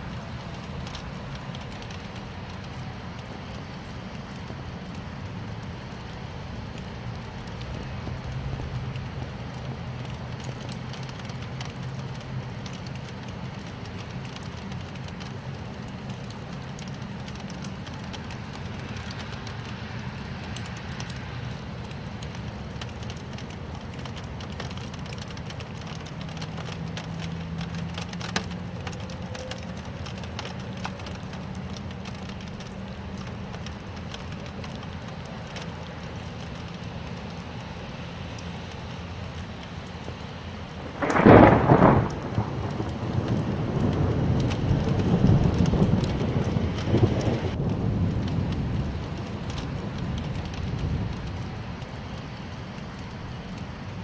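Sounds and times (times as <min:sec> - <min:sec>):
rain drops pattering on surface: 0:00.0 - 0:54.0.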